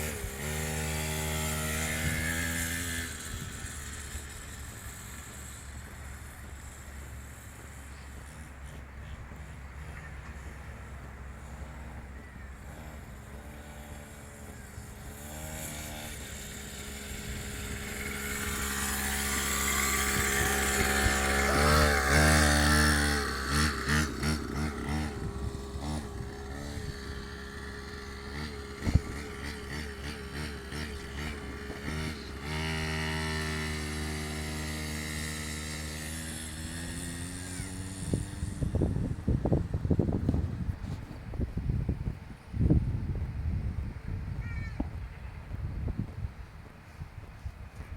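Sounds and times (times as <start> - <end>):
mini dirt bike engine revving: 0.0 - 46.0.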